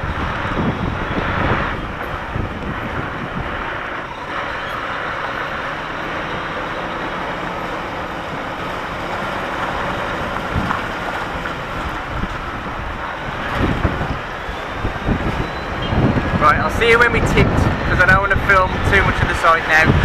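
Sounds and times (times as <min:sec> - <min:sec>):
diesel lorry engine running: 0:00.0 - 0:20.0.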